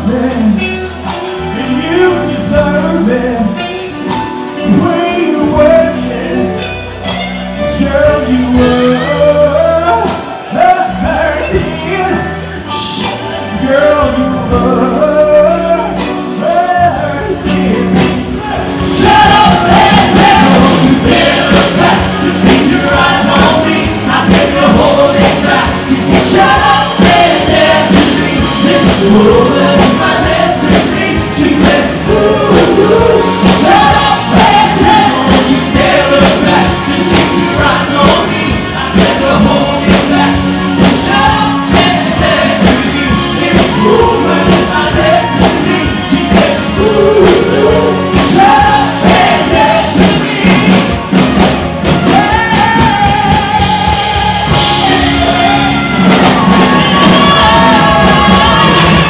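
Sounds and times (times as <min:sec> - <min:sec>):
pop music with male voices: 0:00.0 - 0:06.8, 0:07.6 - 0:59.0.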